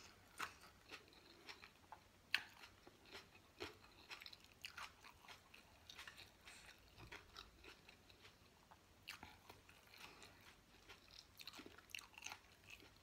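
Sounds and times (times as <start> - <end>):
close-up chewing: 0.0 - 13.0.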